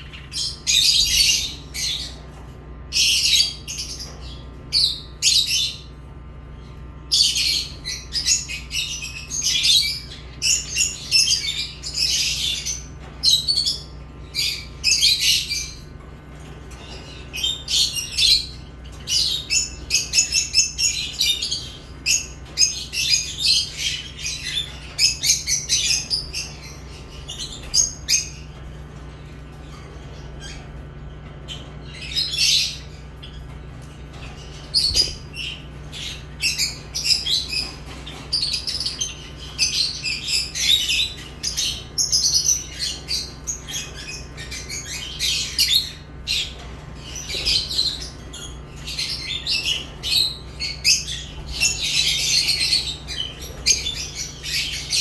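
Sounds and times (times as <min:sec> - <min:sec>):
lovebirds chirping and squawking: 0:00.0 - 0:55.0.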